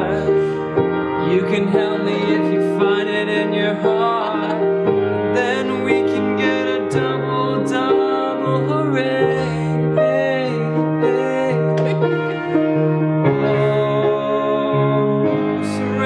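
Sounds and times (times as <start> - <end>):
person singing: 0.0 - 16.0
soft piano song: 0.0 - 16.0.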